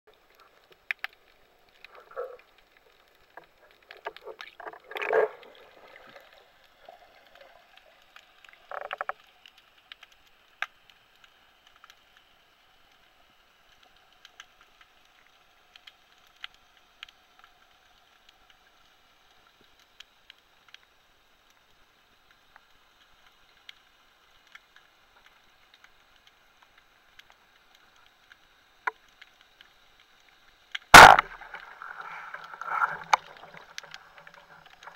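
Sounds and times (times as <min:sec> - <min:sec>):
faint underwater clicks and crackles: 0:00.1 - 0:34.9.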